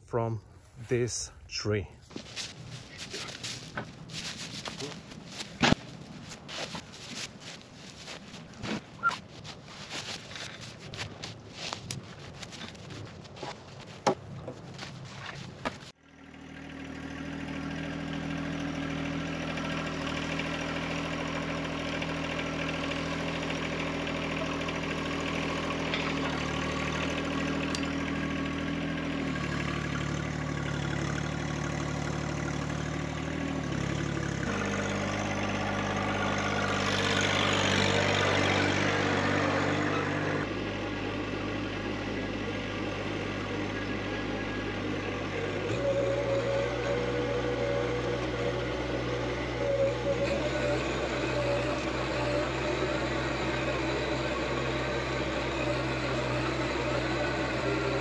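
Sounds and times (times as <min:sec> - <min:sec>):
engine running: 0:00.1 - 0:58.0.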